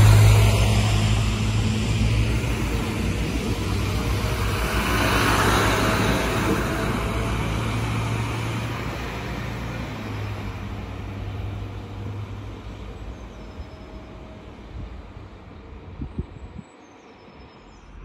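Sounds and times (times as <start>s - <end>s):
low engine drone: 0.0s - 16.5s
railcar passing: 0.0s - 18.0s.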